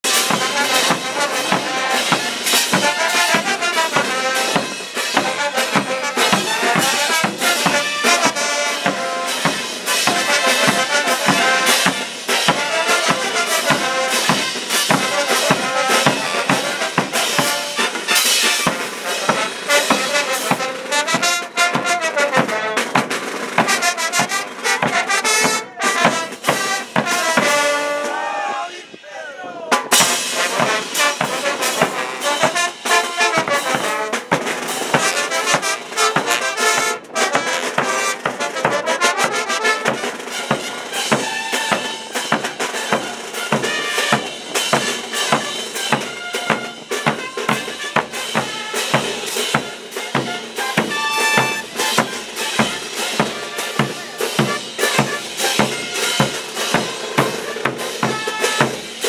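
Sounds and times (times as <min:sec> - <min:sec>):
snare drum: 0:00.0 - 0:28.6, 0:29.7 - 0:59.0
brass band playing: 0:00.0 - 0:59.0.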